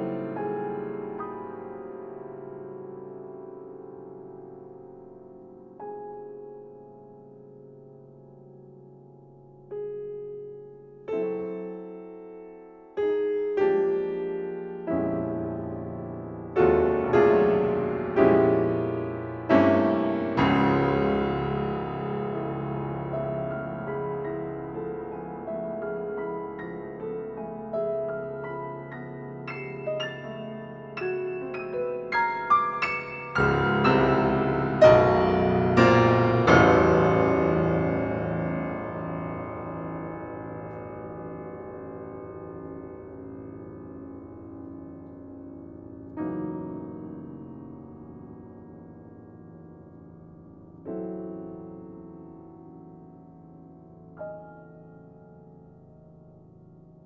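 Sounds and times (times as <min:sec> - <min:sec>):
slow piano chords: 0:00.0 - 0:57.0.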